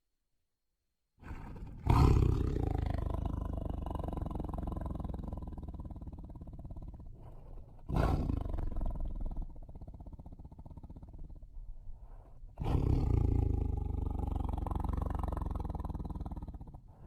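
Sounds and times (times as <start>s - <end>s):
tiger roaring: 1.2s - 11.2s, 12.6s - 16.8s
tiger growling: 1.2s - 17.0s.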